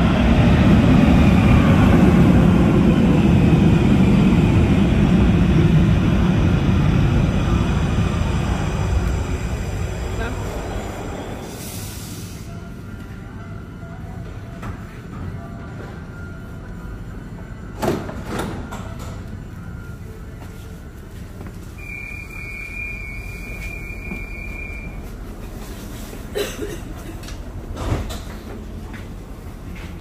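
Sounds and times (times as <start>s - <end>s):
metro train rumbling: 0.0s - 30.0s.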